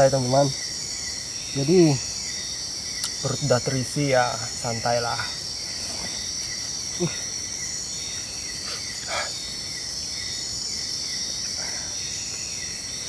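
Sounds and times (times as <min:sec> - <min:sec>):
crickets chirping chorus: 0:00.0 - 0:13.0.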